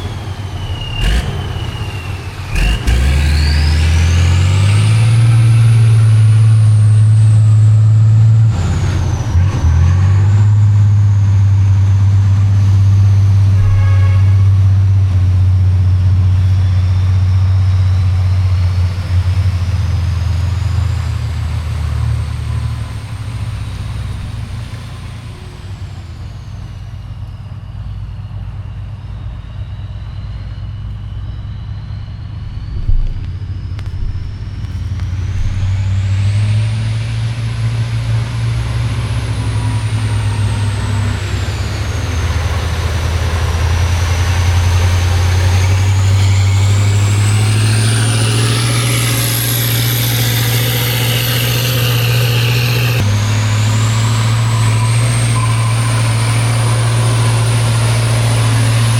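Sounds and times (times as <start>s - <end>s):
high whistle rising and falling: 0.0s - 21.3s, 22.4s - 58.9s
diesel truck engine working hard: 0.0s - 58.9s.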